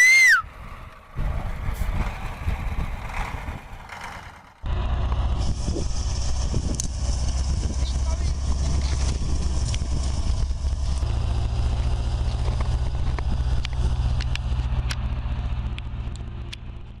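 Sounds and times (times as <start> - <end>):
heavy truck engine running: 0.1 - 17.0.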